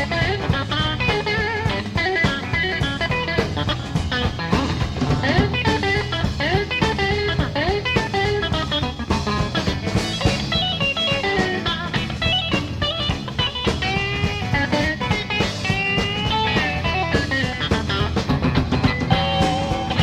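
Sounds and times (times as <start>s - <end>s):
bass and drums: 0.0s - 20.0s
electric guitar solo: 0.0s - 20.0s.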